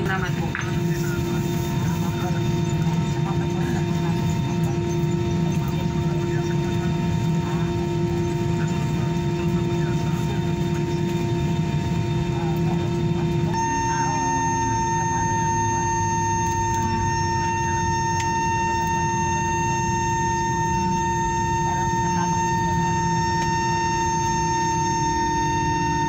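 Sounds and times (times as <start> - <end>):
jet engines humming: 0.0 - 26.0
steady whine: 0.0 - 26.0.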